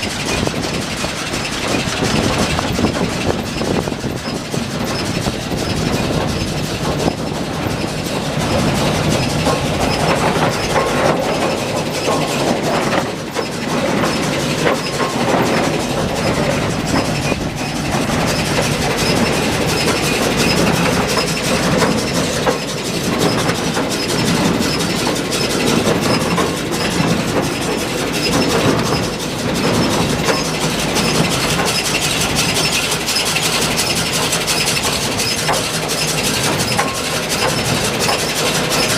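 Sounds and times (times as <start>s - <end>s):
baler mechanical clatter: 0.0s - 38.9s
tractor engine: 0.0s - 38.9s.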